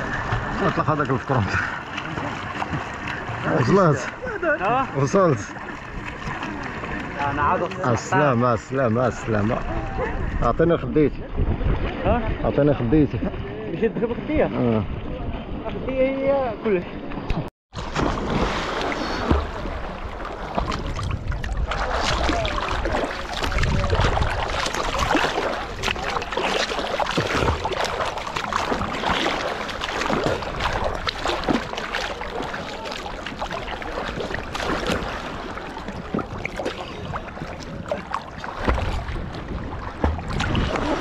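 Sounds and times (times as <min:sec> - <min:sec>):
lake water splashing: 0:00.0 - 0:41.0.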